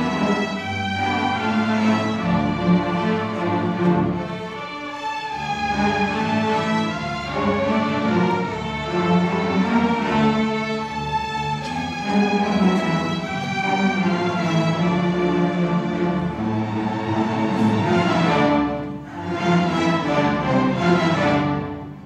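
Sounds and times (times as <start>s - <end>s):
string orchestra playing: 0.0s - 22.0s.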